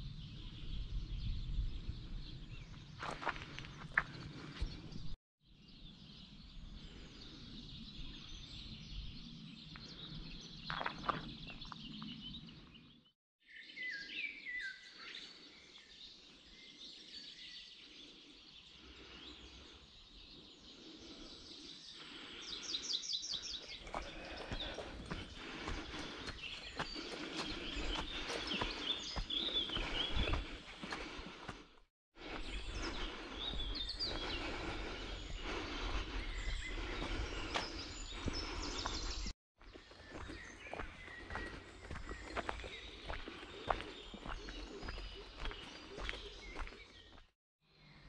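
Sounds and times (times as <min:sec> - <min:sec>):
songbirds chirping and singing: 0:00.0 - 0:48.0.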